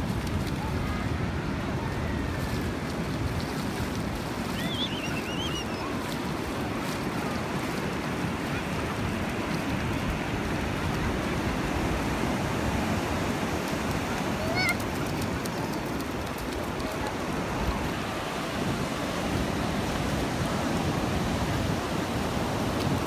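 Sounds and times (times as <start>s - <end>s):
waves breaking on sandy beach: 0.0s - 23.0s
wind rumbling on microphone: 0.0s - 23.0s.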